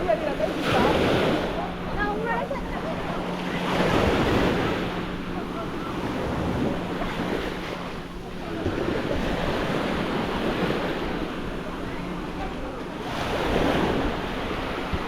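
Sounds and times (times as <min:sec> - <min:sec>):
small waves washing onto sand: 0:00.0 - 0:15.0
wind buffeting microphone: 0:00.0 - 0:15.0.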